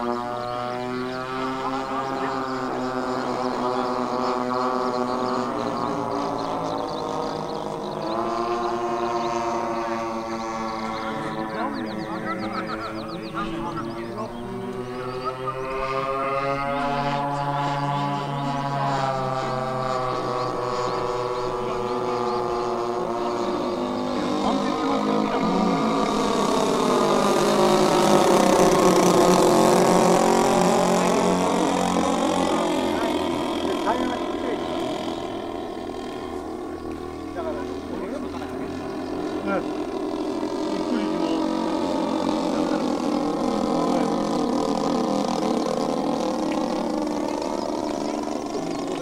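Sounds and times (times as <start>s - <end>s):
model airplane engines running: 0.0s - 49.0s.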